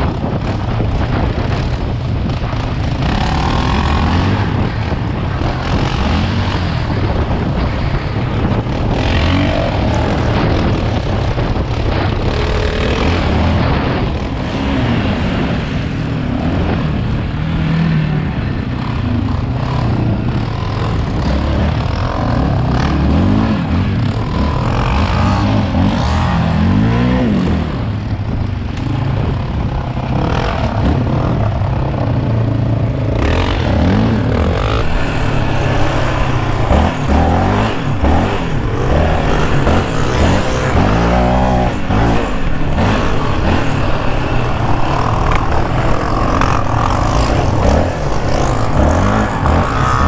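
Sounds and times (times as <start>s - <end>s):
quad engine revving: 0.0s - 15.6s, 19.7s - 27.8s, 30.0s - 50.0s
other quad engines: 0.0s - 50.0s.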